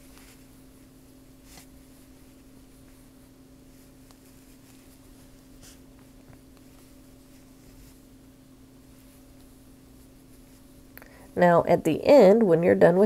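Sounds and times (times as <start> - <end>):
yarn rustling: 0.0 - 10.9
steady low hum: 0.0 - 13.0.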